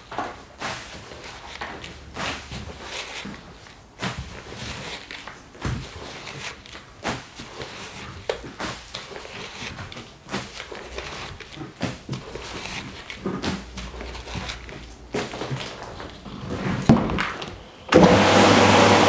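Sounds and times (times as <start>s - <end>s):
rubber boots on plastic sheeting: 0.0s - 19.0s
powder scooped from plastic bucket: 0.6s - 17.6s.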